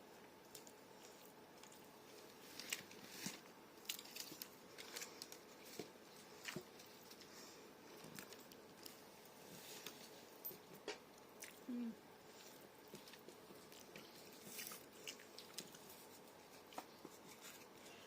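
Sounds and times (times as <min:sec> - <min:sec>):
person chewing and crunching food: 0:00.3 - 0:18.0.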